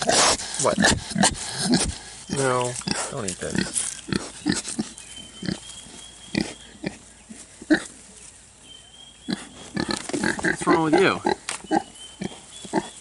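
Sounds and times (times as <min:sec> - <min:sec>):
piglets grunting: 0:00.0 - 0:08.0, 0:09.3 - 0:13.0.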